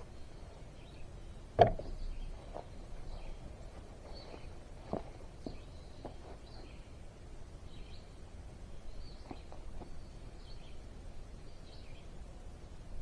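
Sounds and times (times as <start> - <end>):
low outdoor rumble: 0.0 - 13.0
songbird chirping: 0.0 - 13.0.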